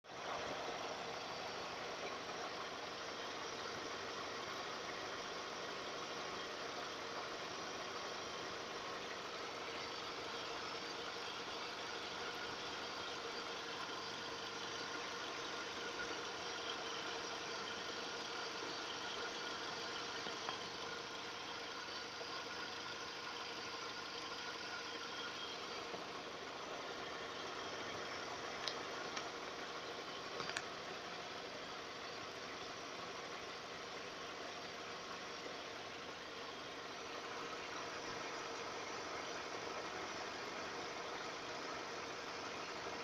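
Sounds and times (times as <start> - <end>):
car engine idling: 0.0 - 43.0
faint steady tone: 0.0 - 43.0.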